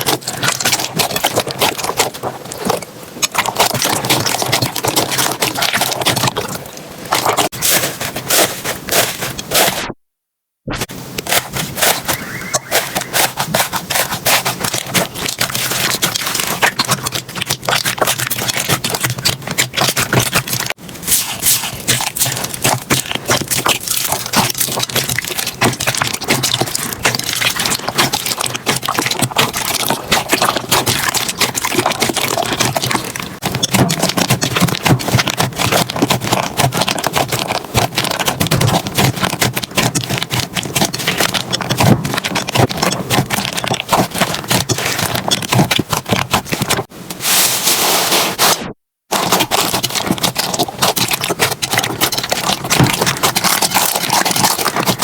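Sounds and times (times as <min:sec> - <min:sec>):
slime crackling and popping: 0:00.0 - 0:09.7, 0:11.2 - 0:46.9, 0:48.4 - 0:55.0.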